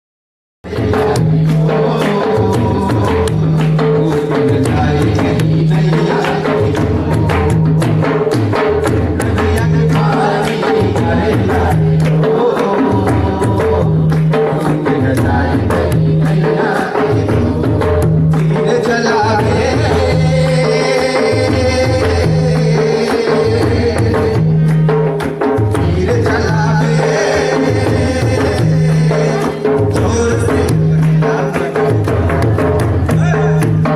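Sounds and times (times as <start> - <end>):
person singing: 0.6 - 7.9, 9.1 - 24.6, 25.7 - 33.9
folk music drum beat: 0.6 - 33.9.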